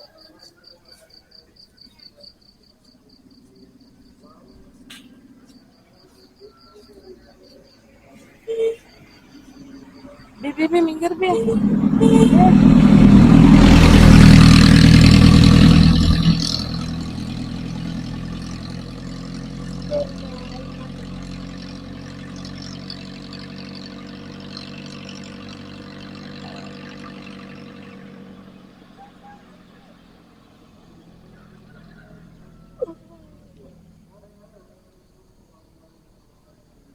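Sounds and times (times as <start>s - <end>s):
vehicle engine passing by: 3.1s - 36.9s.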